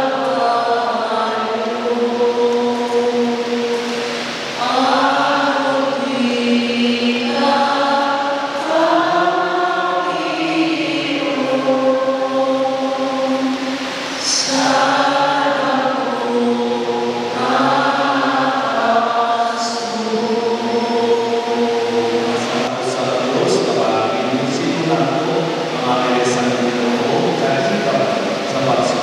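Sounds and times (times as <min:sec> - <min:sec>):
voices chanting: 0:00.0 - 0:29.0.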